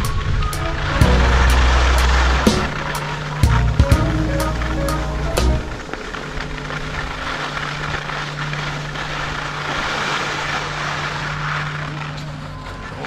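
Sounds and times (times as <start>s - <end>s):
steady low hum: 0.0s - 12.6s
skis scraping over snow: 0.0s - 13.0s.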